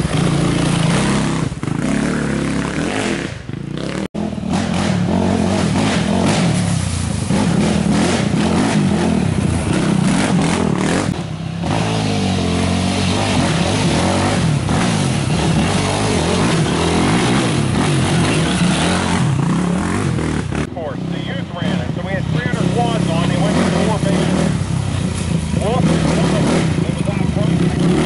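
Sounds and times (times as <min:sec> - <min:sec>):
quad engines revving: 0:00.0 - 0:28.0.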